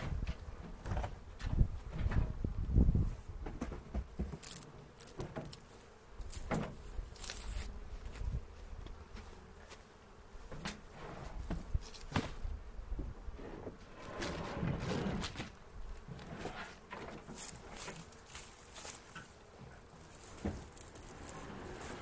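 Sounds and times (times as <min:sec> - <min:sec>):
bees buzzing: 0:04.0 - 0:22.0.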